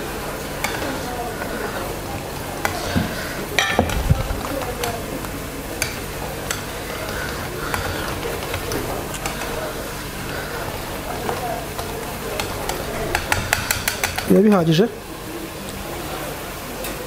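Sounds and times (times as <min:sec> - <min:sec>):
whisk swishing in batter: 0:00.3 - 0:14.9
whisk wires clicking on bowl: 0:00.4 - 0:15.0.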